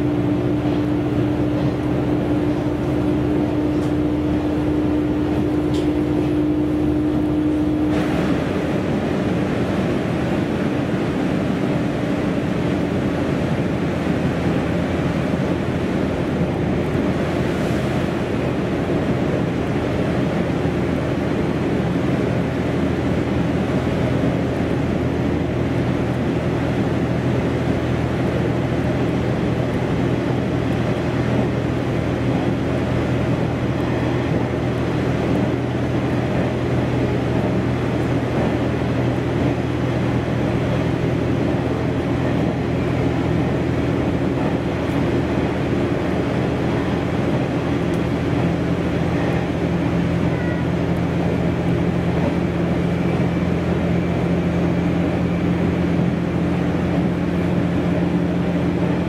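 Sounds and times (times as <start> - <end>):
diesel engine drone: 0.0 - 59.0
wheels rushing on rails: 0.0 - 59.0.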